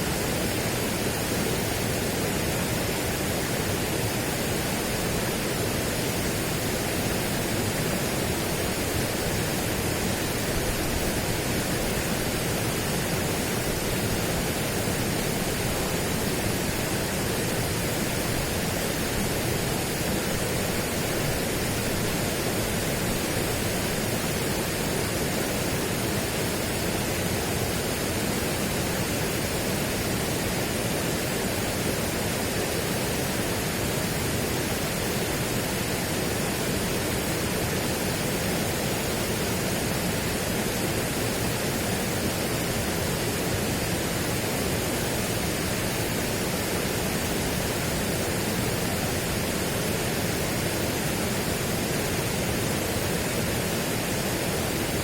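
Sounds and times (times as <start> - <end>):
steady broadband rushing noise: 0.0 - 55.0.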